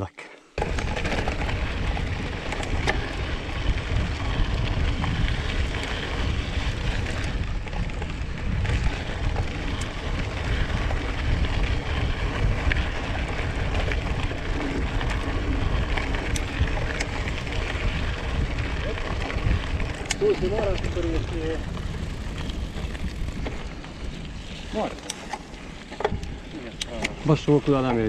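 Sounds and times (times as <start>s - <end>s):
small ticks and rattles: 0.6s - 28.0s
tyres rumbling on dirt: 0.6s - 28.0s
wind buffeting microphone: 0.6s - 28.0s.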